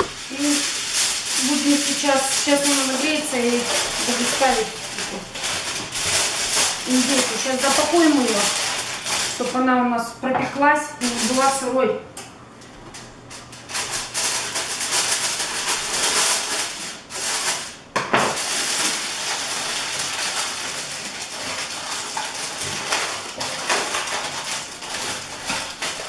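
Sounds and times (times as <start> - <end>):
aluminium foil crinkling: 0.0 - 9.9, 11.0 - 11.8, 13.0 - 26.0.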